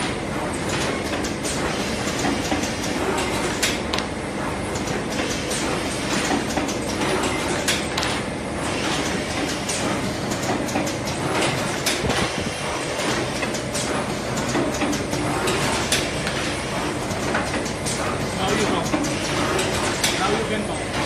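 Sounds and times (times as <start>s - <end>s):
machine clacking: 0.0s - 21.0s.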